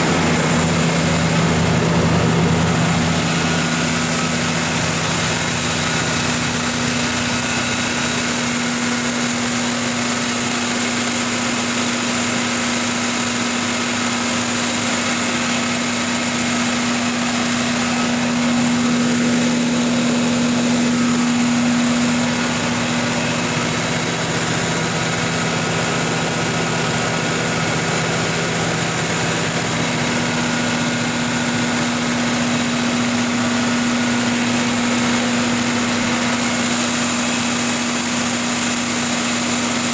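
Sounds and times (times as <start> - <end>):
high-pitched whine: 0.0 - 10.4, 14.3 - 39.9
diesel generator running: 0.0 - 39.9.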